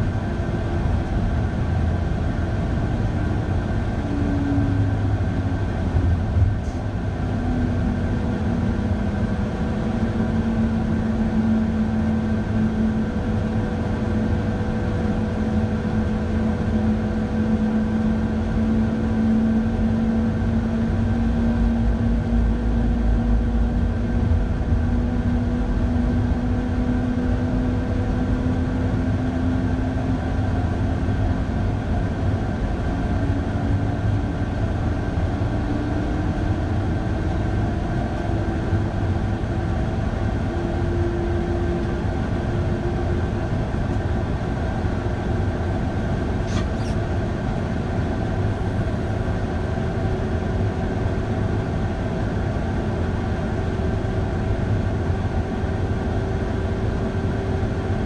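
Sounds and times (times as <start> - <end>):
train wheels rumbling on rail: 0.0 - 51.6.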